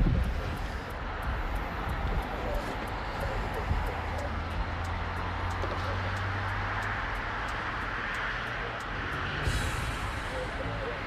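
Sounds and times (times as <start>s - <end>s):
engine humming: 0.0s - 11.0s
faint ticking: 0.0s - 11.0s
outdoor background noise: 0.0s - 11.0s.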